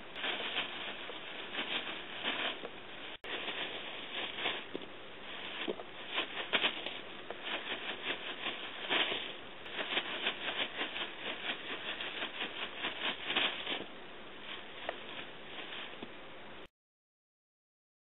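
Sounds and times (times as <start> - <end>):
cats scuffling on gravel: 0.0 - 16.2
plastic streamers rustling: 0.0 - 16.2.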